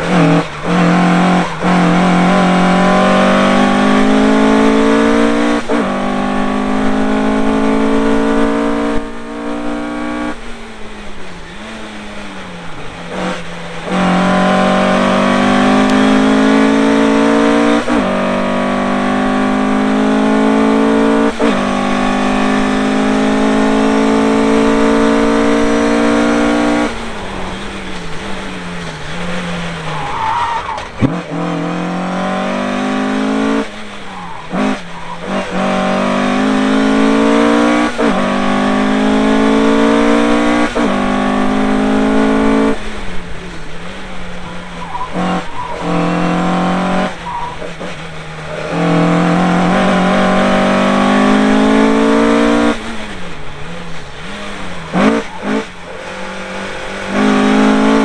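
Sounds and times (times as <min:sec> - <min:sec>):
car engine revving through gears: 0:00.0 - 0:58.0
road noise: 0:00.0 - 0:58.0.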